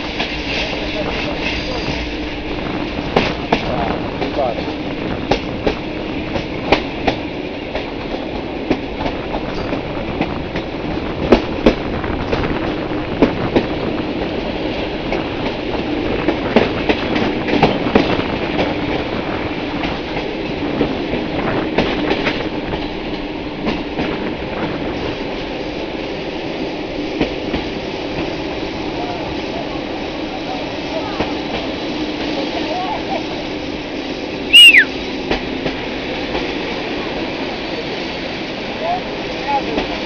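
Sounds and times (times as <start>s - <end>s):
train wheels rolling: 0.0s - 40.0s.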